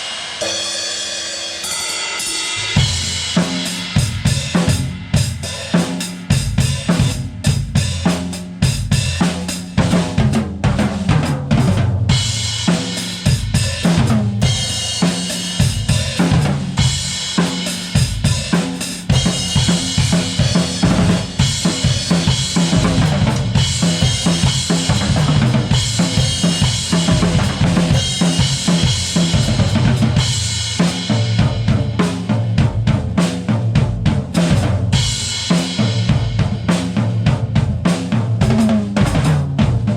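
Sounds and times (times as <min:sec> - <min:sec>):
cymbals and hi-hat: 0:00.0 - 0:39.9
drum kit playing: 0:00.0 - 0:39.9.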